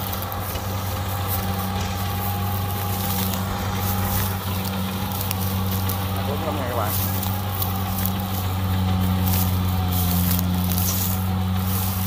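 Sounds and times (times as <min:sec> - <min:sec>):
combine harvester engine hum: 0:00.0 - 0:12.0
machine clicks and rattles: 0:00.0 - 0:12.0.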